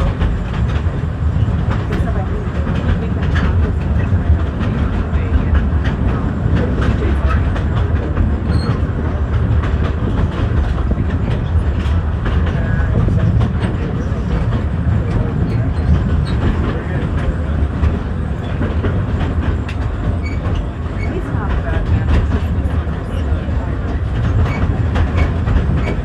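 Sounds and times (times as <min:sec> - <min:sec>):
train rumbling on track: 0:00.0 - 0:26.0
wheels clicking on rails: 0:00.0 - 0:26.0.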